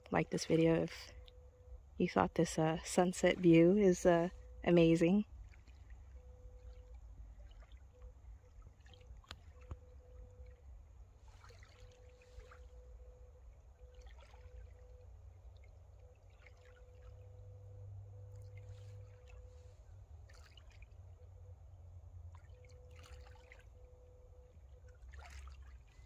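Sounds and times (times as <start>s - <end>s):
small waves lapping: 0.0s - 26.0s
soft splashes: 0.4s - 26.0s.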